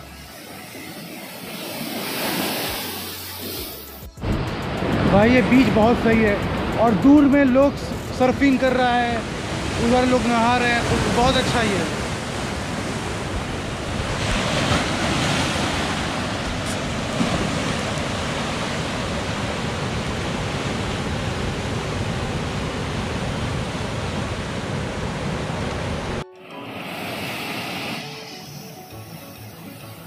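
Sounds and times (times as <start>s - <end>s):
sea waves washing over sand: 0.0s - 28.7s.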